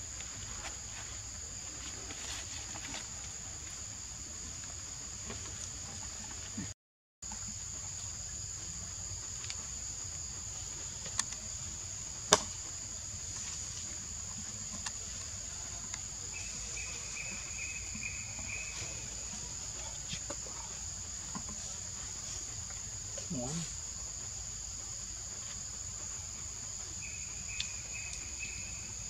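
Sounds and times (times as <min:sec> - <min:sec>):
forest insects droning: 0:00.0 - 0:29.0.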